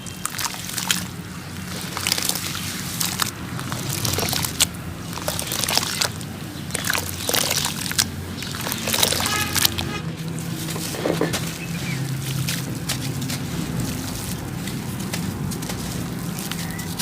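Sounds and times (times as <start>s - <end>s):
chunks crunching and crumbling: 0.0s - 17.0s
water sloshing: 0.0s - 17.0s.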